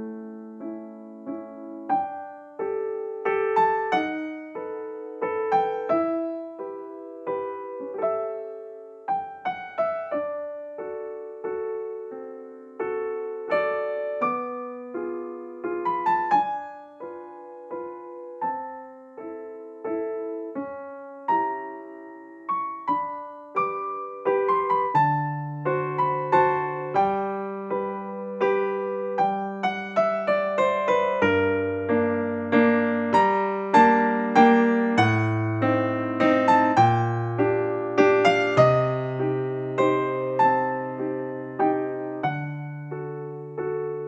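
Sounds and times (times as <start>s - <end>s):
piano melody: 0.0s - 44.0s.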